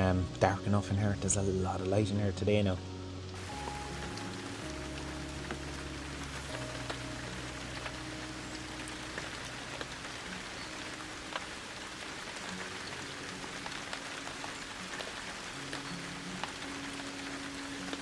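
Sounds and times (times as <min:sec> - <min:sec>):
rain hissing: 0:00.0 - 0:18.0
raindrop ticks: 0:00.0 - 0:18.0.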